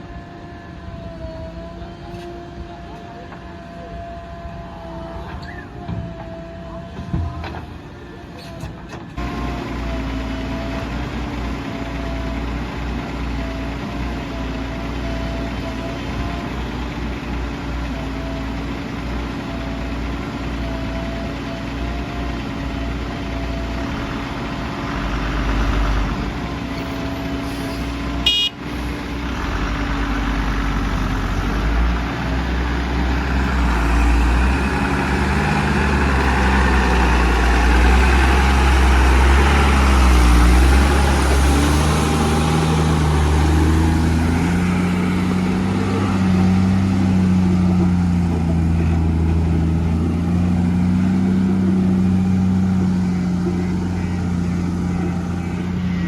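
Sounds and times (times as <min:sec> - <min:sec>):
heavy diesel machinery engine: 0:00.0 - 0:56.0.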